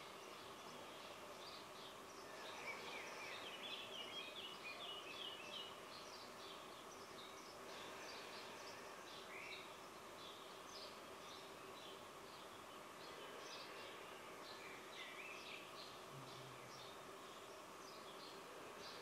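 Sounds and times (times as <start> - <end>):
faint birds twittering: 0.0 - 19.0
low hiss of room noise: 0.0 - 19.0.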